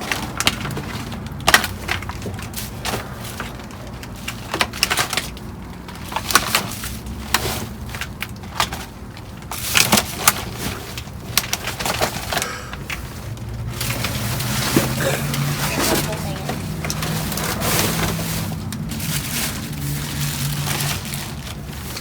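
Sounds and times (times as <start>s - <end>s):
trash knocking and clattering: 0.0s - 22.0s.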